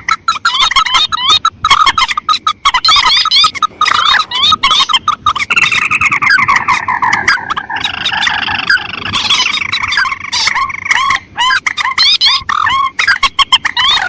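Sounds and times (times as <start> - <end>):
long chattering bird call: 0.0 - 14.0
rail and crake calls: 0.0 - 14.0.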